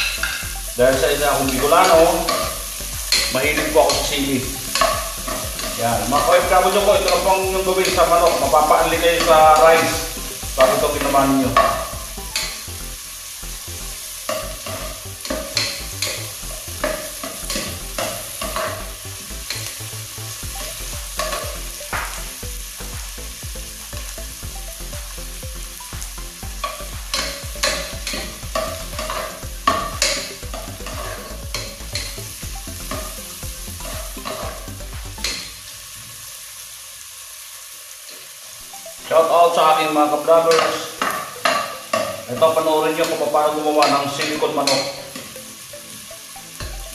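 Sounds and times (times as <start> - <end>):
chicken sizzling in a pot: 0.0 - 46.9.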